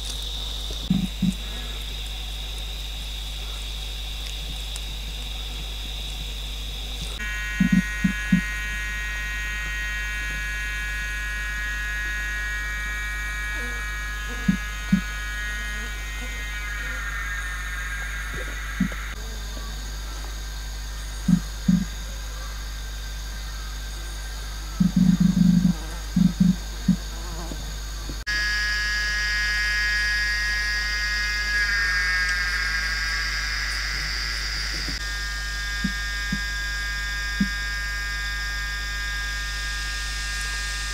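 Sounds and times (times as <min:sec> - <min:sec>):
short low hums: 0:00.0 - 0:22.2, 0:24.7 - 0:40.9
high-pitched insect buzz: 0:00.0 - 0:40.9.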